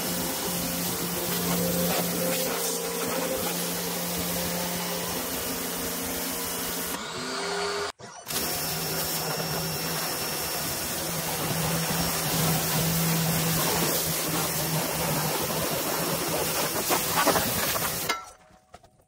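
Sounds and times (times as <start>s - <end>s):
water jet hissing: 0.0s - 7.0s, 8.3s - 18.1s
pressure washer motor humming: 0.0s - 18.1s.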